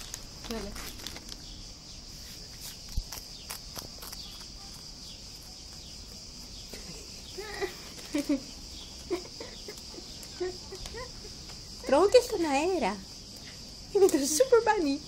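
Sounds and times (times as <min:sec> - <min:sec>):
rabbit chewing crunching: 0:00.0 - 0:14.5
high-pitched insect drone: 0:00.0 - 0:15.0.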